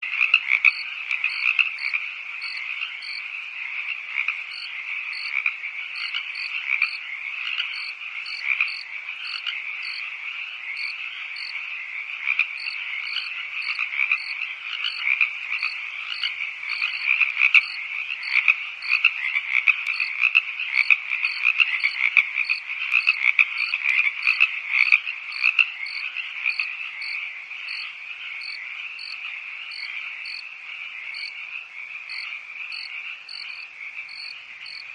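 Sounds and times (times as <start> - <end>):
chorus of toads calling: 0.0 - 34.9
crickets chirping: 0.6 - 3.3, 4.4 - 11.6, 12.6 - 19.0, 19.9 - 24.4, 25.3 - 30.5, 31.1 - 34.9.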